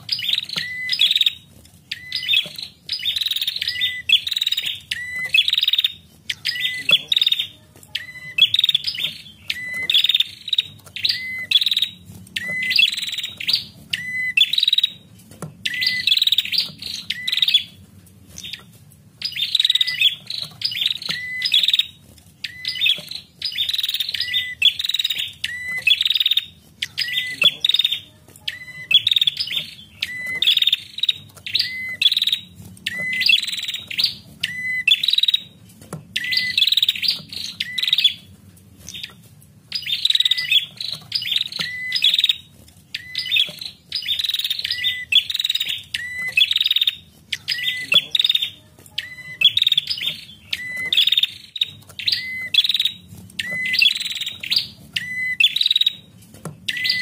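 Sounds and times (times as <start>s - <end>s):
bird buzzy chirping call: 0.0s - 57.0s.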